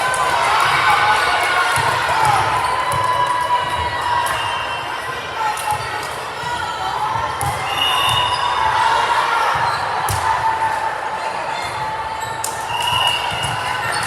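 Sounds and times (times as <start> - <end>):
crowd voices and shouting: 0.0 - 14.0.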